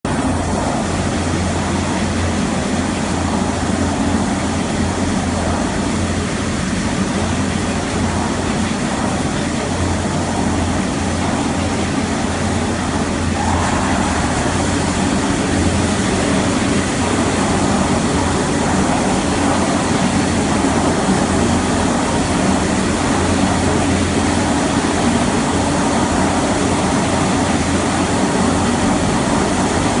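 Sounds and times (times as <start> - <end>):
metal forming machine running: 0.1 - 30.0.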